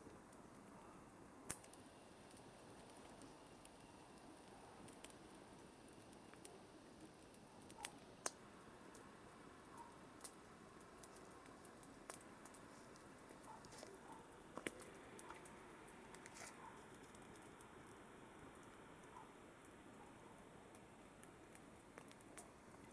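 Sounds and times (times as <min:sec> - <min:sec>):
campfire crackling: 0:00.0 - 0:22.9
faint steady hiss: 0:00.0 - 0:22.9.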